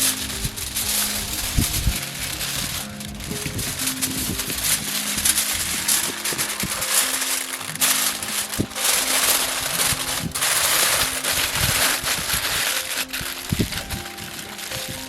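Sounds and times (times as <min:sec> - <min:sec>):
aluminium foil crinkling: 0:00.0 - 0:15.0
background music held notes: 0:00.0 - 0:15.0.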